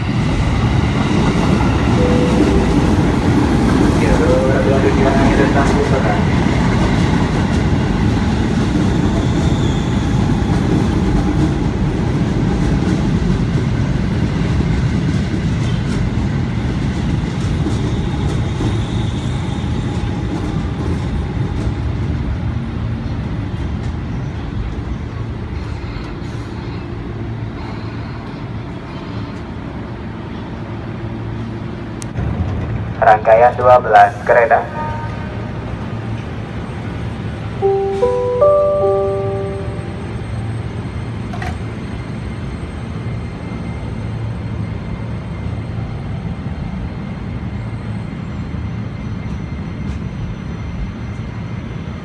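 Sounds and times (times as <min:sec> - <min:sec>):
electric train passing: 0:00.0 - 0:52.0.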